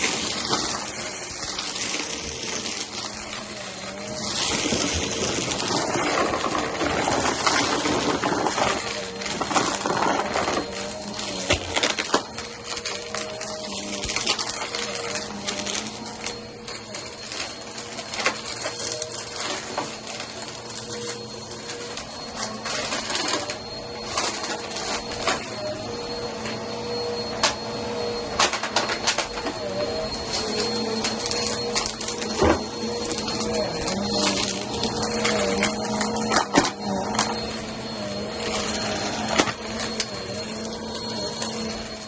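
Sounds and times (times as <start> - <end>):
cereal rattling through vacuum: 0.0 - 25.4, 29.2 - 42.0
vacuum cleaner running: 0.0 - 42.0.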